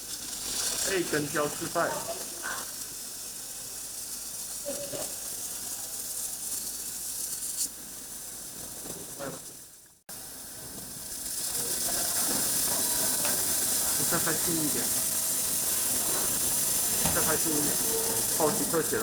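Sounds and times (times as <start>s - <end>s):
laser welder hissing: 0.0s - 19.0s.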